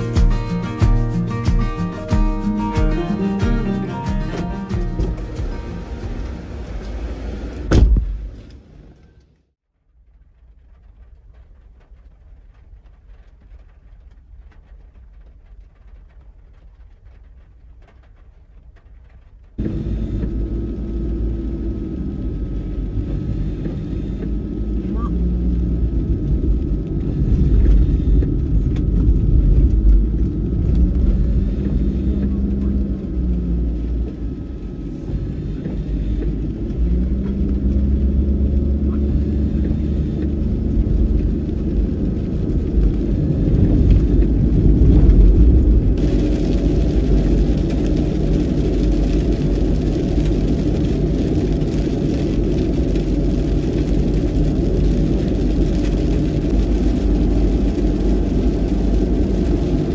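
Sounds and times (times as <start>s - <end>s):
tyre rumble on wet road: 0.0s - 59.9s
van engine from inside cabin: 0.0s - 59.9s.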